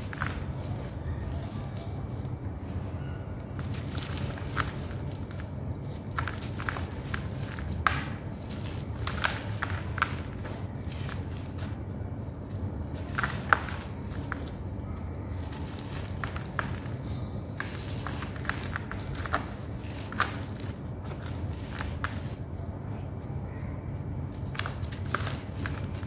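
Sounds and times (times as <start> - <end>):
faint low hum: 0.0 - 26.0
gritty crumbling between fingers: 0.0 - 26.0.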